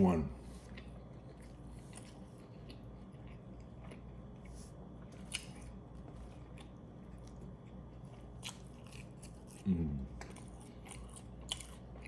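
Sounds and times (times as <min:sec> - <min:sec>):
person chewing food: 0:00.4 - 0:12.0.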